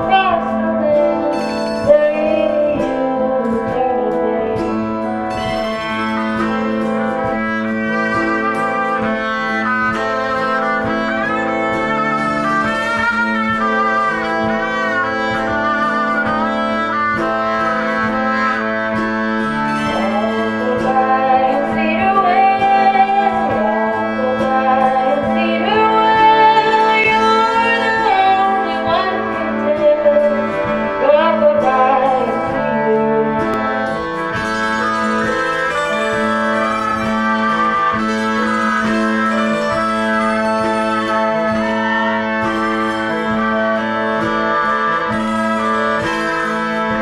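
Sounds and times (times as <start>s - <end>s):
nasal brassy violin melody: 0.0s - 47.0s.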